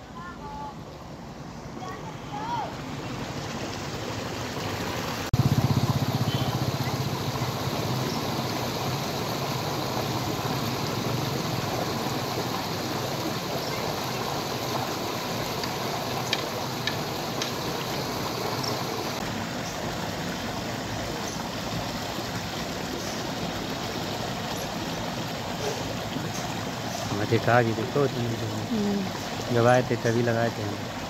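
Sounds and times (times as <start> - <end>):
water rushing down concrete slope: 2.2 - 31.0.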